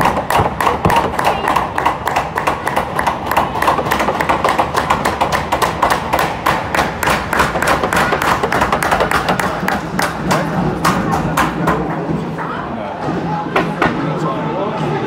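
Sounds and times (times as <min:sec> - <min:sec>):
crowd clapping and banging: 0:00.0 - 0:12.5
hum of crowd voices: 0:00.0 - 0:15.0.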